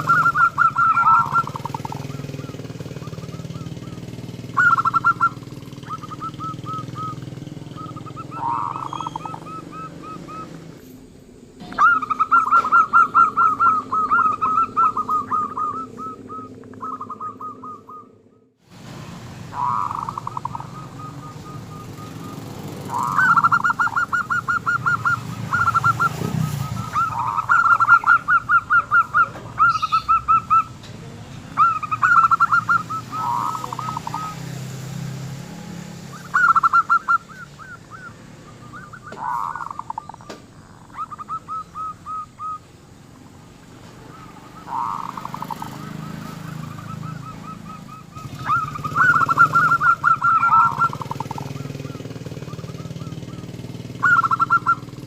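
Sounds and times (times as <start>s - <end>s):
dove cooing: 0.0s - 18.5s, 19.4s - 55.0s.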